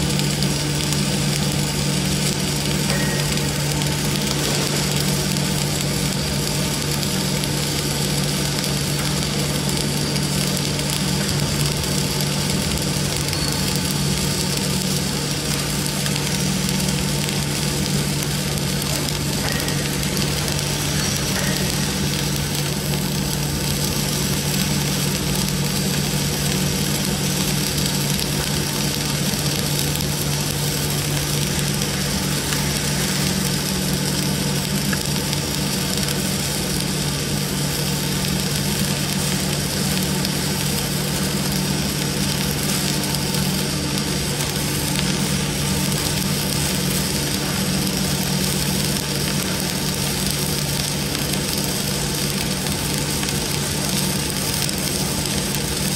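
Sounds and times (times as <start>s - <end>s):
steady low hum: 0.0s - 55.9s
welding arc crackling and hissing: 0.0s - 55.9s.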